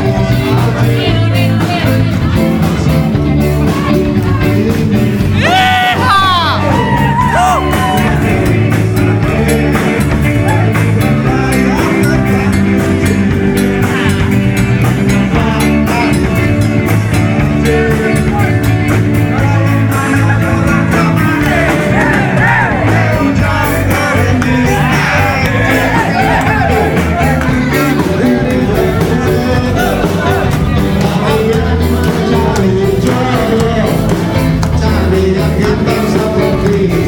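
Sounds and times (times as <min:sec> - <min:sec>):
live rock band playing: 0:00.0 - 0:37.0
men singing into microphones: 0:00.0 - 0:37.0.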